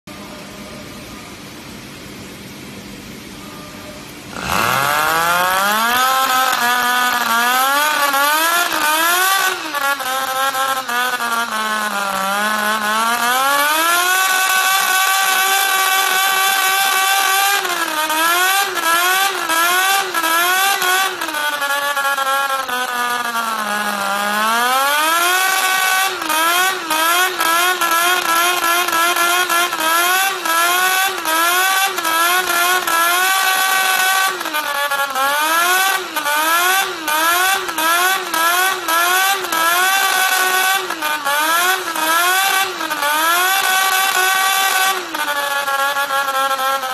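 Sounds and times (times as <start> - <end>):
model rotary engine revving: 4.3 - 46.9.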